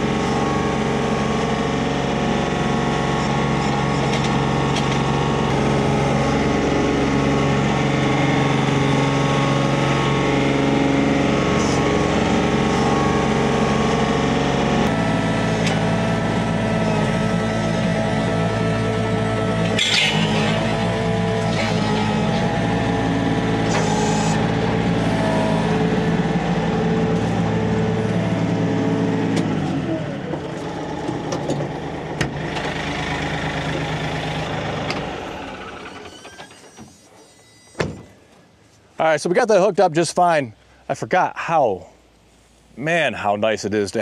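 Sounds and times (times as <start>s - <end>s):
tractor diesel engine running: 0.0s - 41.3s.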